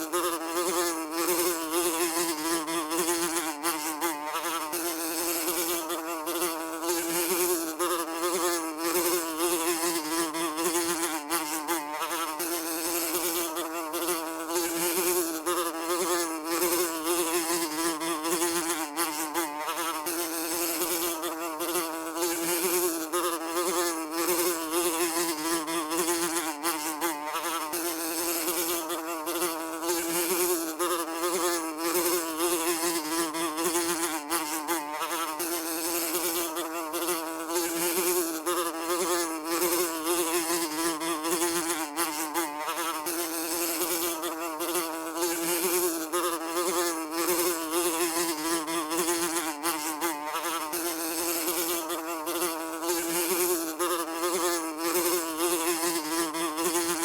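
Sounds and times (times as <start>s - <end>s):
housefly buzzing: 0.0s - 57.0s.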